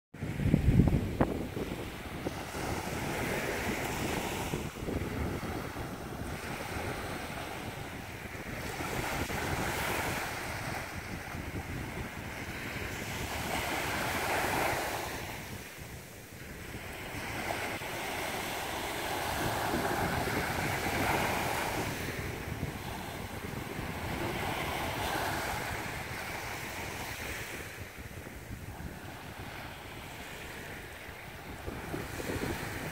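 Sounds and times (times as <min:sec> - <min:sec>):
wind buffeting microphone: 0:00.1 - 0:32.9
surf waves breaking on beach: 0:00.2 - 0:32.9.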